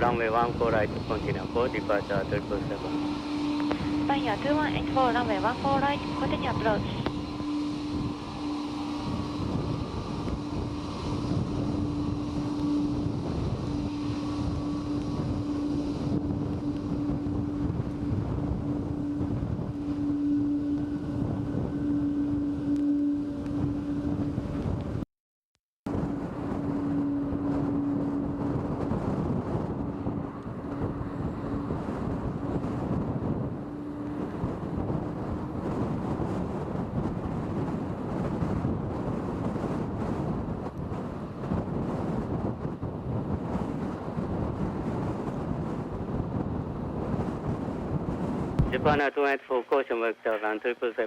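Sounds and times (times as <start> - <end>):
droning hum: 0.0 - 25.0, 25.9 - 51.0
strong wind buffeting microphone: 0.0 - 25.0, 25.9 - 49.4.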